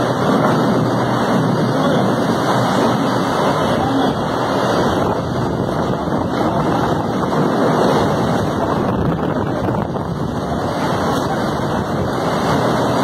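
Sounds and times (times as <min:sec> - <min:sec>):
strong gusting wind on microphone: 0:00.0 - 0:13.0.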